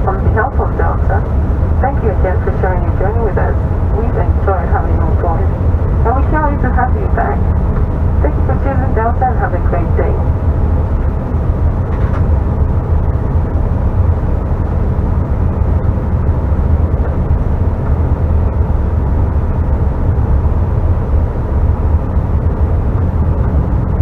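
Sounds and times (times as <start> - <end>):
faint steady tones: 0.0 - 24.0
jet cabin engine rumble: 0.0 - 24.0.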